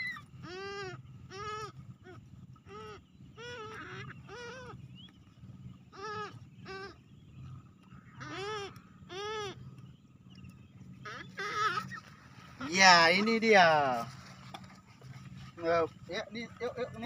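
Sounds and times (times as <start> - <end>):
bird chicks calling: 0.0 - 17.0.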